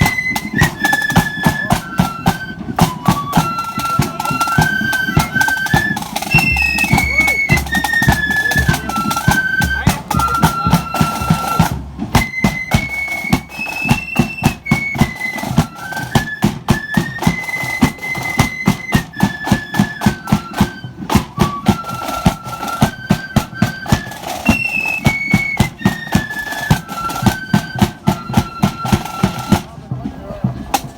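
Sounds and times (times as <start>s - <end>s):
drum beat: 0.0s - 30.9s
flutes playing melody: 0.0s - 30.9s.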